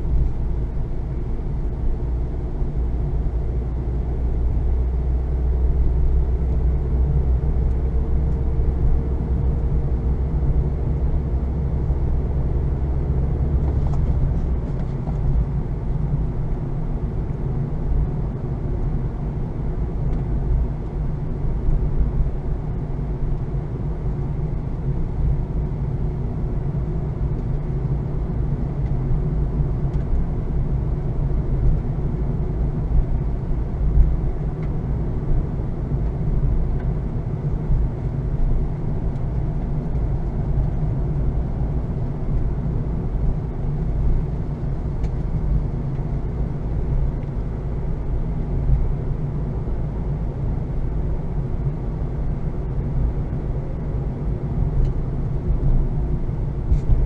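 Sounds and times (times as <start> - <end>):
car engine droning: 0.0 - 57.0
road noise: 0.0 - 57.0.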